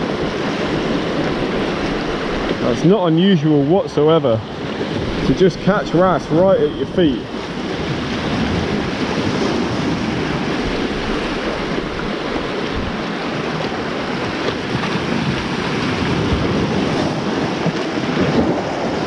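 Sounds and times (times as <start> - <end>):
sea waves breaking on rocks: 0.0 - 19.0
wind on microphone: 0.0 - 19.0.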